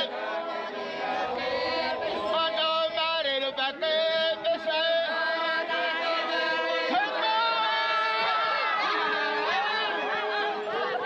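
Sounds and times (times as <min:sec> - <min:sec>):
group of voices chanting: 0:00.0 - 0:11.0.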